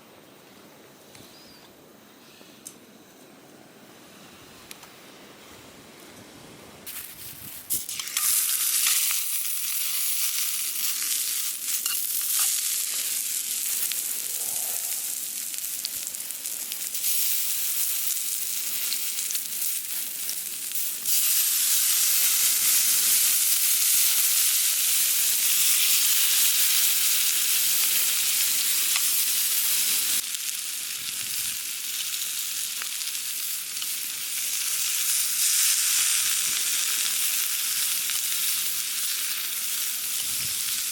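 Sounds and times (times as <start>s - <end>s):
food sizzling in a pan: 6.9s - 40.9s.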